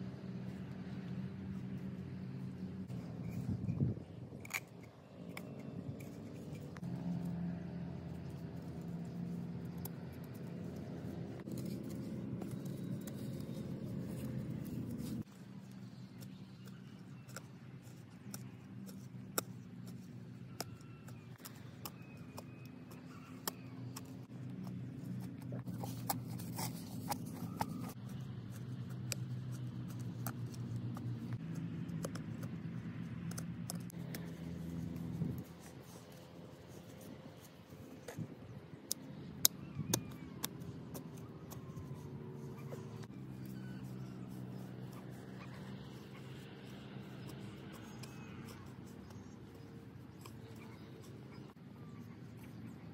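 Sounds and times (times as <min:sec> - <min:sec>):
hoe chopping and scraping soil: 0:02.8 - 0:51.6.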